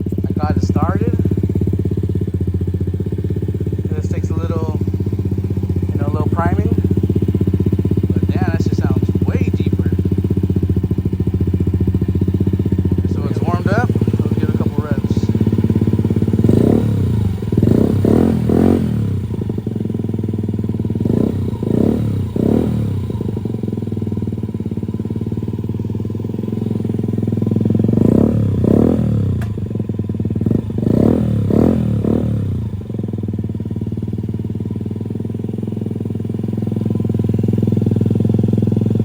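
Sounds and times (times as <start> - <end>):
scooter engine idling and revving: 0.0 - 39.0.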